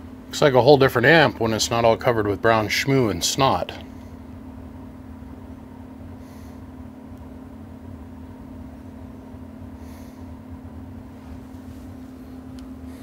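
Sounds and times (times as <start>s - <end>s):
steady low hum with tone: 0.0s - 13.0s.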